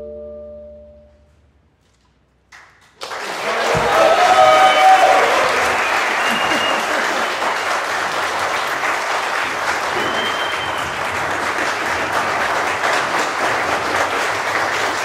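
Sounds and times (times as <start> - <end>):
audience applauding: 2.5 - 15.0.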